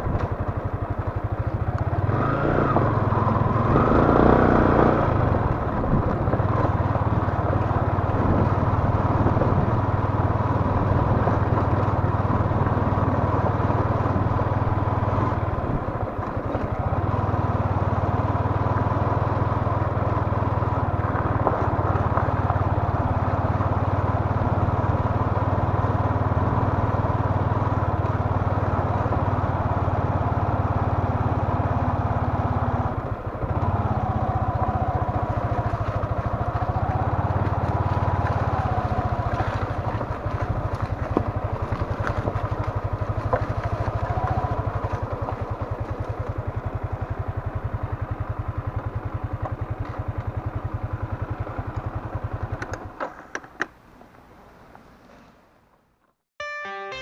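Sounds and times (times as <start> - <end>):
motorcycle engine running: 0.0 - 54.4.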